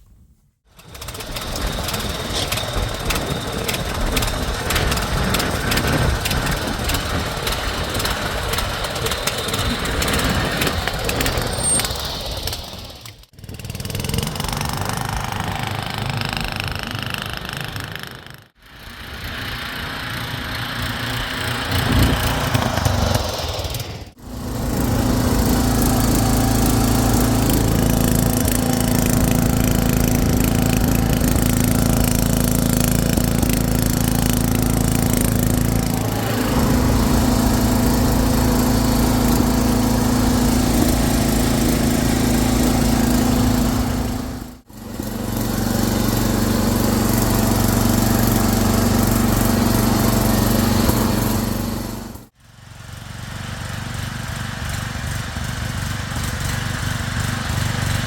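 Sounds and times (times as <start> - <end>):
garden tractor engine running: 0.7 - 58.0.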